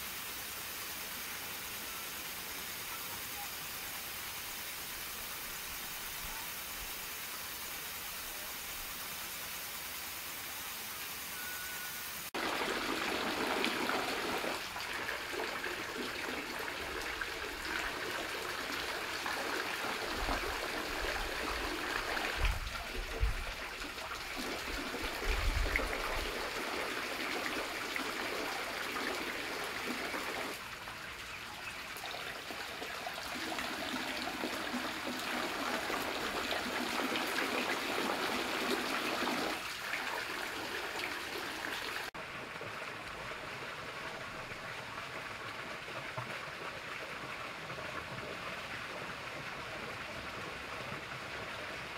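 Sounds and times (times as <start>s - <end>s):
fountain water splashing: 0.0s - 11.5s, 12.2s - 51.9s.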